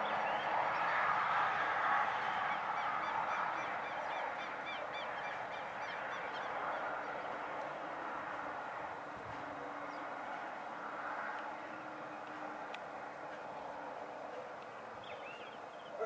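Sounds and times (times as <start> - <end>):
distant traffic: 0.0 - 16.0.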